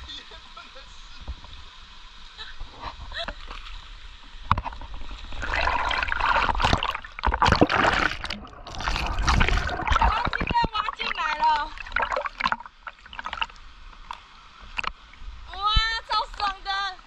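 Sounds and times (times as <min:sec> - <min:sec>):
water splashing: 0:02.3 - 0:17.0.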